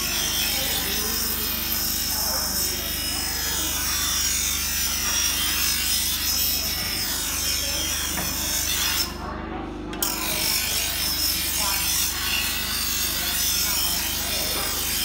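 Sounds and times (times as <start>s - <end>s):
angle grinder grinding metal: 0.0s - 9.2s, 9.9s - 15.0s.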